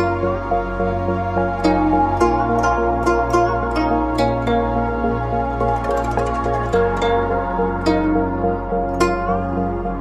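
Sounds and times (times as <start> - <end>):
plucked-string instrumental music: 0.0 - 10.0.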